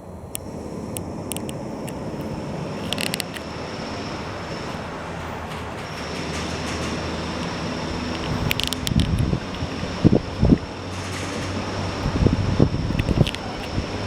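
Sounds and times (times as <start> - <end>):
thin high whine: 0.0 - 14.0
vehicle rumbling in motion: 0.0 - 14.0
sharp clicks: 0.2 - 12.0, 12.8 - 14.0.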